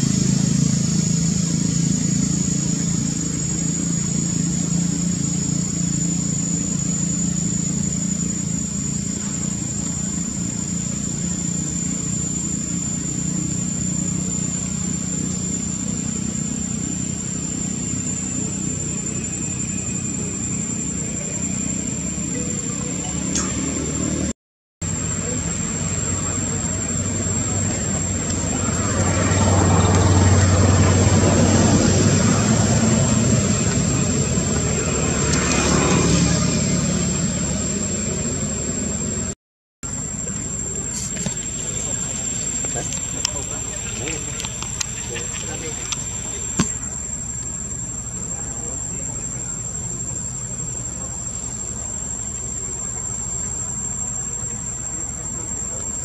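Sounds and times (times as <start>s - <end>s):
broad noisy din: 0.0s - 56.0s
high insect drone: 0.0s - 56.0s
motor vehicle engine running: 0.0s - 56.0s.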